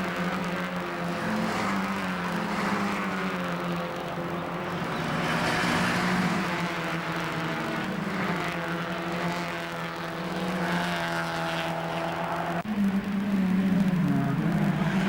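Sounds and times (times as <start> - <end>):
race car engines running hard: 0.0 - 15.0.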